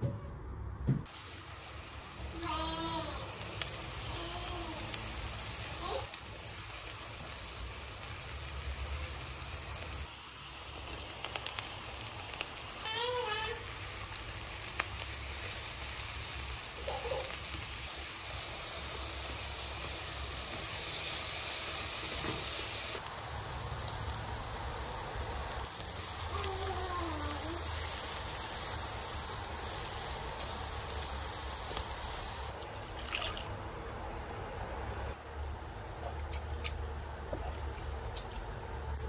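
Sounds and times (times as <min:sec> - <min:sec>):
mushrooms and onion sizzling: 0:01.1 - 0:32.5.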